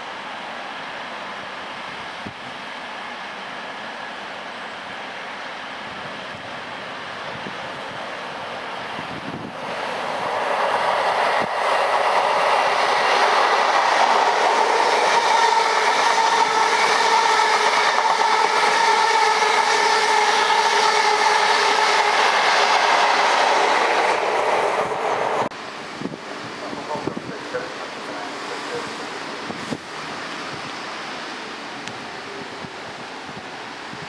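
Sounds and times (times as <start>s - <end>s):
train passing at speed: 0.0s - 34.0s
wheels rushing on rail: 0.0s - 34.0s.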